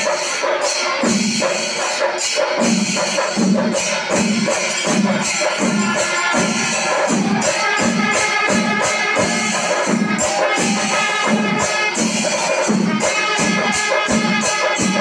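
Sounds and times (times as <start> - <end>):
drums beating: 0.0 - 15.0
hand cymbals clashing: 0.0 - 15.0.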